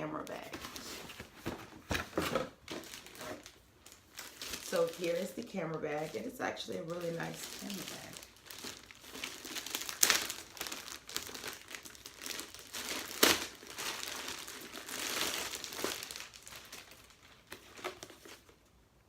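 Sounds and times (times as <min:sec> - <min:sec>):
packaging crinkling and rustling: 0:00.0 - 0:18.8.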